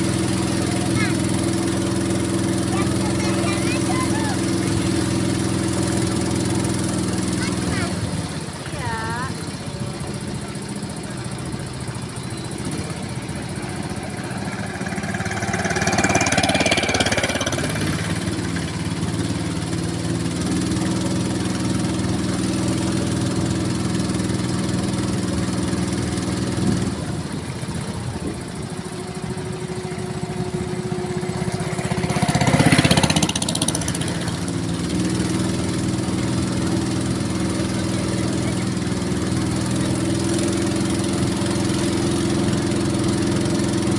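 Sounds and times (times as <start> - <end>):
small boat engine running: 0.0 - 43.9.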